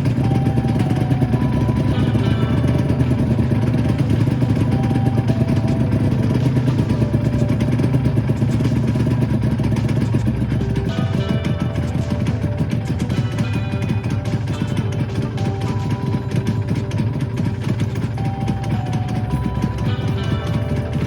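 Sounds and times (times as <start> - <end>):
motorcycle engine idling low: 0.0 - 21.0.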